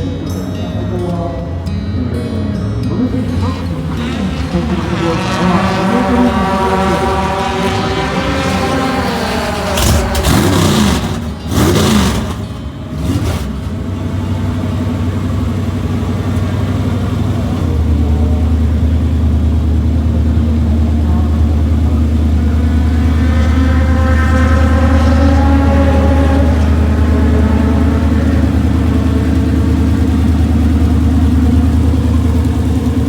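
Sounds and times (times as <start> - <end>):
race car engines revving: 0.0 - 33.0.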